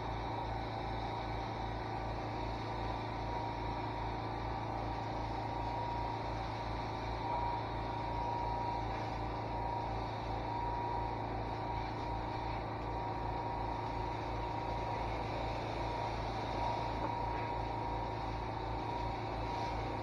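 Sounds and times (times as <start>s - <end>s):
low regular pulse: 0.0s - 20.0s
pressure washer running: 0.0s - 20.0s.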